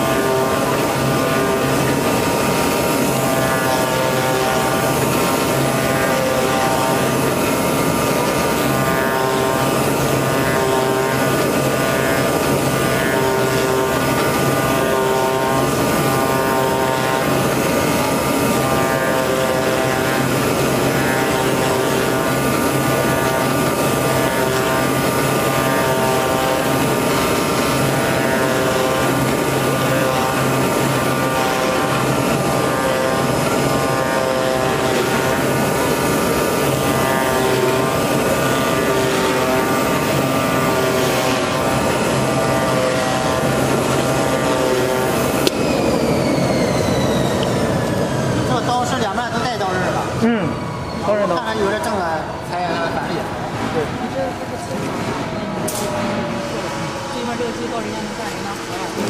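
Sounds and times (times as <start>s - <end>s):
machine whining tones: 0.0s - 59.0s
steady machine drone: 0.0s - 59.0s.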